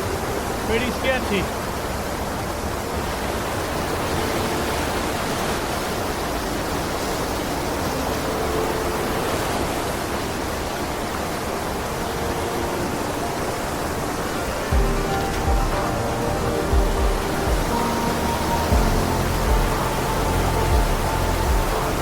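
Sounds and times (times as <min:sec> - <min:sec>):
creek water rushing over rocks: 0:00.0 - 0:22.0.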